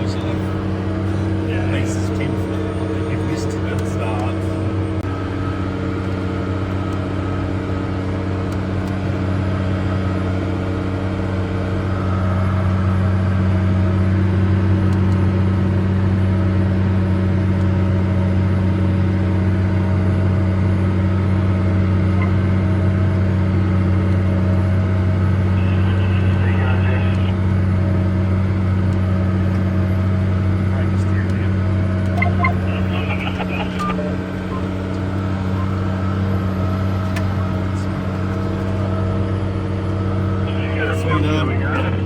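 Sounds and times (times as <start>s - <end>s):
tractor diesel engine droning: 0.0s - 42.0s.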